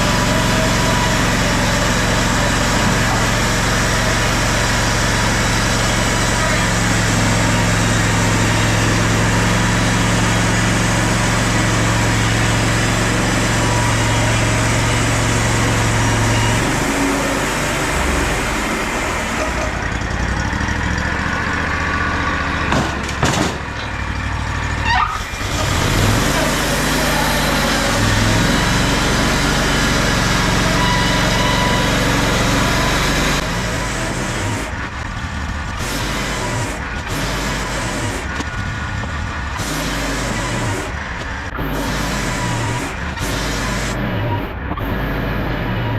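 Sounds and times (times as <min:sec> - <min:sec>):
sawmill engine droning: 0:00.0 - 0:45.9.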